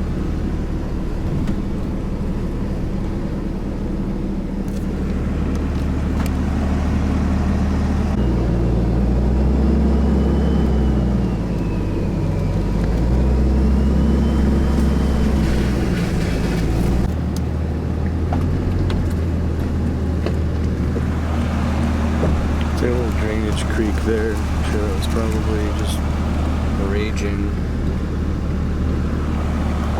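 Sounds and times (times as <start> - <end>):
car engine: 0.0 - 29.9
road noise: 0.0 - 29.9.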